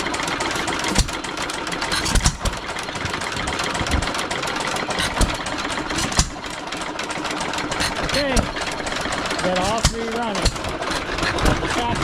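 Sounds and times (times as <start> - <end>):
heavy engine firing thumps: 0.0 - 12.0
stationary gas engines running: 0.0 - 12.0.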